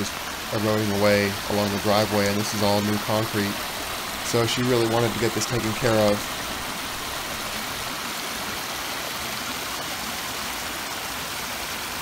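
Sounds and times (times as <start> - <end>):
runoff water rushing in ditch: 0.0 - 12.0.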